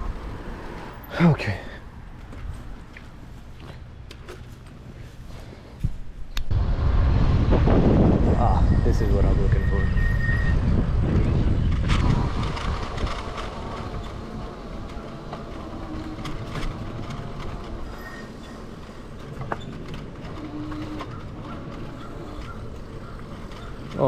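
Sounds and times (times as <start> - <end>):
bike rolling and rattling: 2.0 - 5.4, 6.5 - 24.0.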